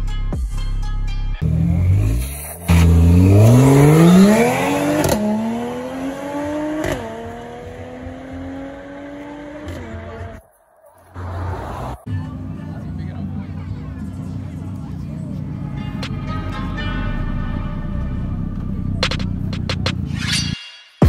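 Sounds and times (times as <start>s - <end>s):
car engine revving: 1.4s - 20.1s.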